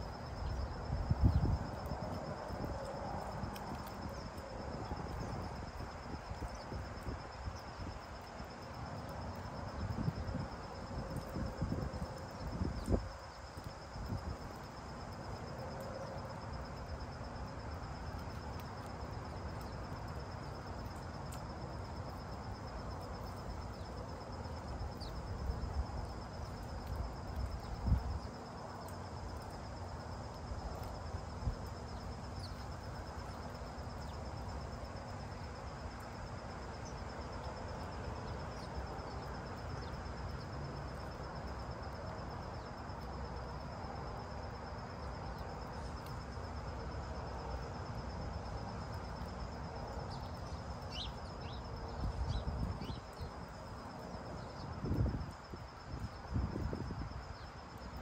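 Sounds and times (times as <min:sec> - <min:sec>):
high-pitched insect trill: 0:00.0 - 0:58.0.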